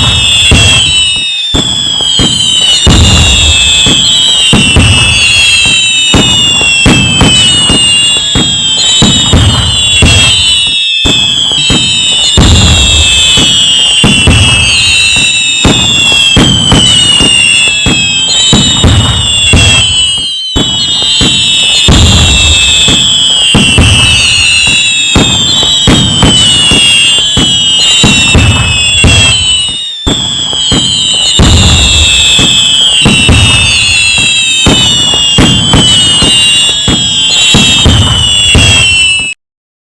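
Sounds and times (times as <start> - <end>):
fireworks bangs and crackling: 0.0 - 39.4
fireworks whistles falling in pitch: 0.0 - 39.4.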